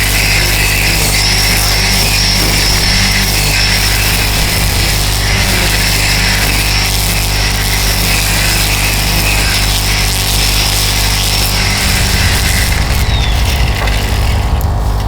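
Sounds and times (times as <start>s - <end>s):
string trimmer cutting weeds: 0.0s - 15.0s.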